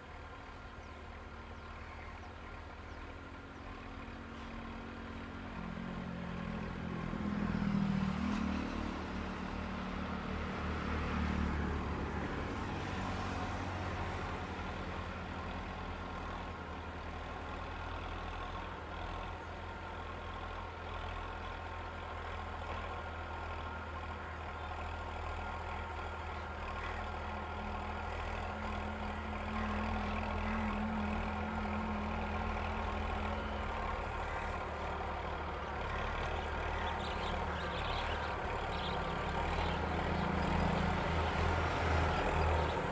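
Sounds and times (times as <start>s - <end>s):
tractor engine running under load: 0.0s - 42.9s.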